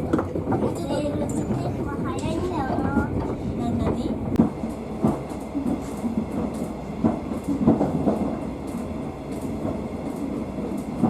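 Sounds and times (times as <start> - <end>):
train running along track: 0.0 - 11.0.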